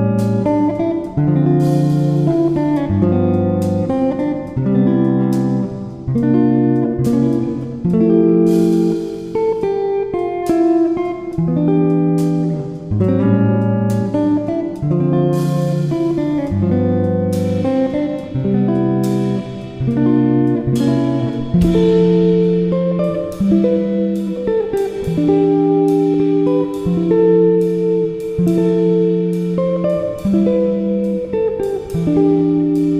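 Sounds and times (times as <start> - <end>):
plucked guitar music: 0.0 - 32.9.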